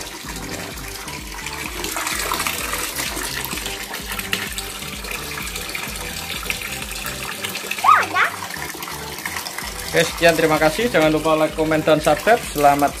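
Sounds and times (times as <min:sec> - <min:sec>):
water splashing into basin: 0:00.0 - 0:13.0.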